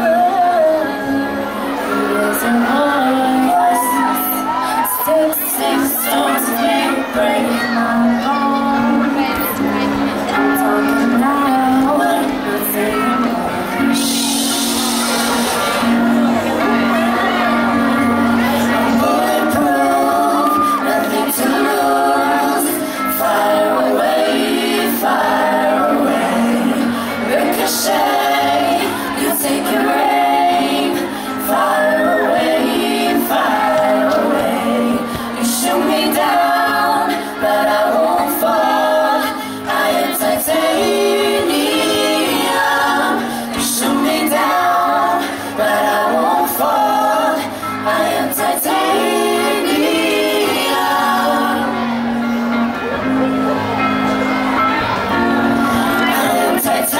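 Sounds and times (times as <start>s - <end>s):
women singing in harmony: 0.0s - 53.3s, 55.1s - 56.9s.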